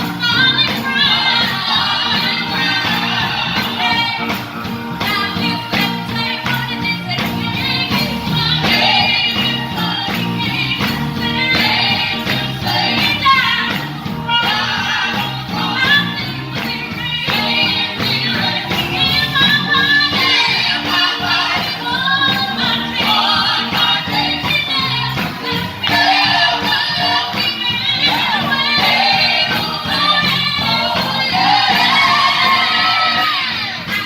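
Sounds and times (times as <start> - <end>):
band playing: 0.0 - 34.0
gospel choir singing: 0.0 - 34.0
tambourine-like percussion: 0.0 - 34.0.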